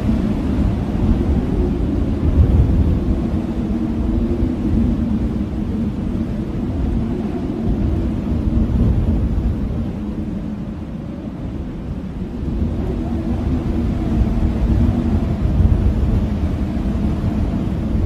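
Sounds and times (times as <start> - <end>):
blizzard wind rumbling: 0.0 - 18.0.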